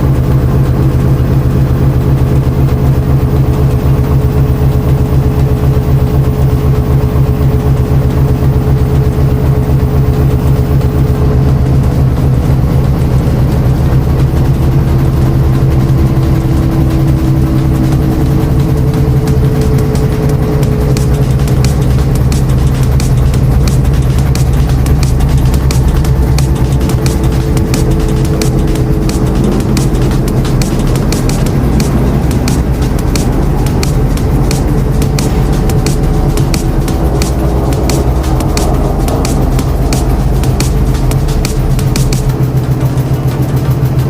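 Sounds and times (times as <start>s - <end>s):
washing machine running: 0.0s - 44.0s.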